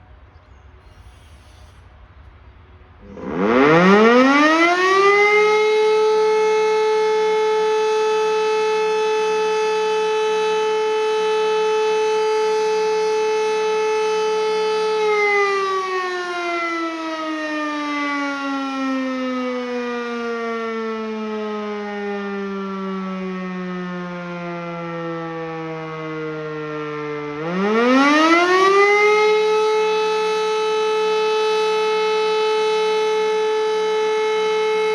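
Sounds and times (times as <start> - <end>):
electromechanical siren wailing: 3.0 - 34.9.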